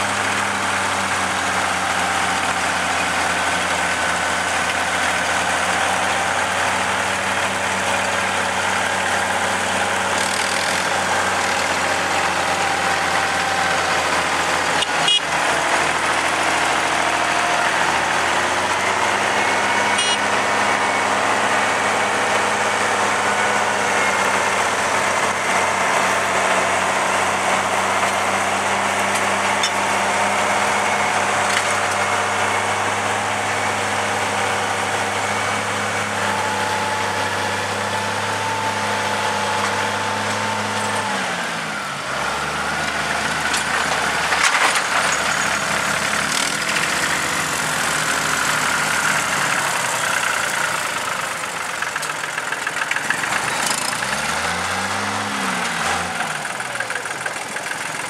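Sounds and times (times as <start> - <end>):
diesel tractor engines: 0.0 - 58.0.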